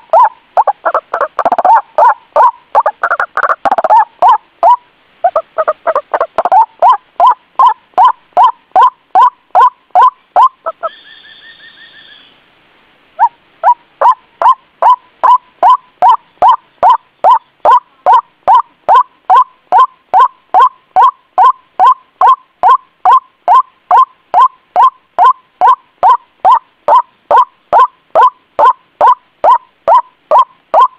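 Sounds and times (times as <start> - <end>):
waterhen calling: 0.0 - 12.4, 13.1 - 30.9.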